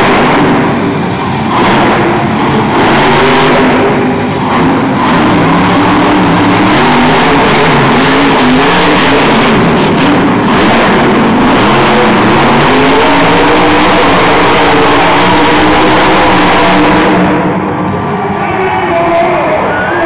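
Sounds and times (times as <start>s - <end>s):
loud truck engine revving: 0.0s - 18.4s.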